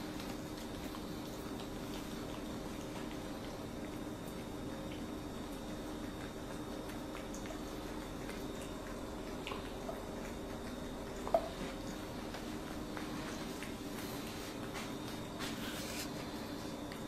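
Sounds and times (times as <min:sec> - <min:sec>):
cat chewing wet food: 0:00.0 - 0:17.0
steady low hum: 0:00.0 - 0:17.0.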